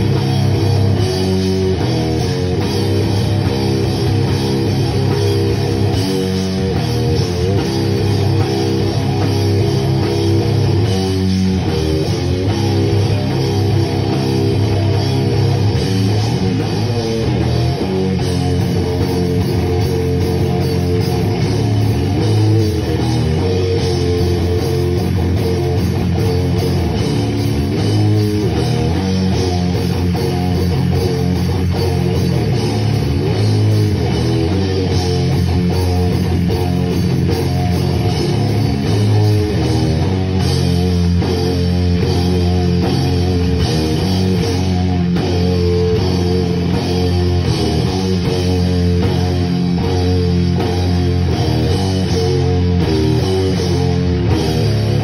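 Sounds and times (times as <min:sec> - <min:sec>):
heavy rock band playing live: 0:00.0 - 0:55.0.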